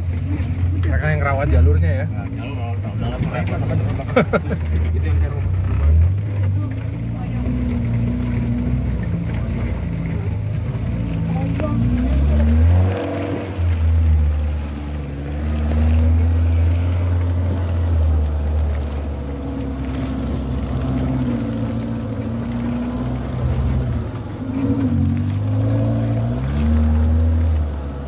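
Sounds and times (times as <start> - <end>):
engine running in low gear: 0.0 - 28.0.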